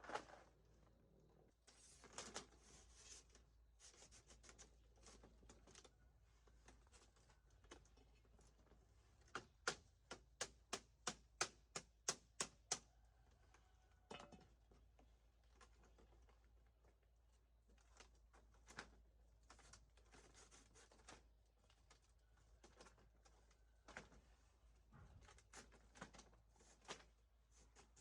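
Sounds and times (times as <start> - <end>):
rustling and scraping: 0.0 - 9.6, 14.1 - 28.0.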